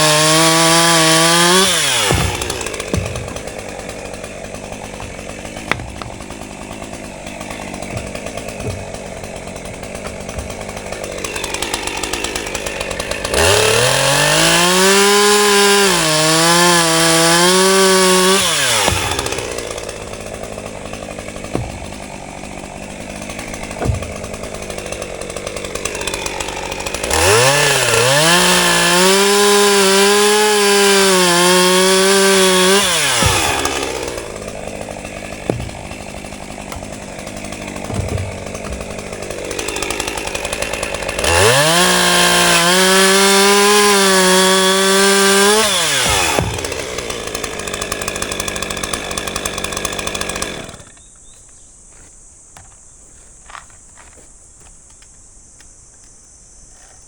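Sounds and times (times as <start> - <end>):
chainsaw cutting log: 0.0 - 51.1.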